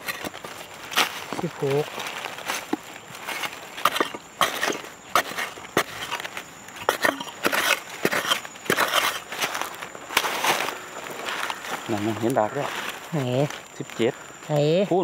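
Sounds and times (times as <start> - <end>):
earth and dry leaves rustling: 0.0 - 15.0.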